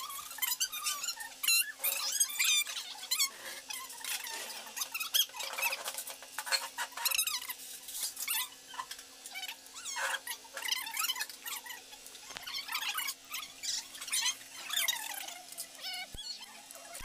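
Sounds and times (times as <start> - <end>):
small animal squeaking: 0.0 - 17.0.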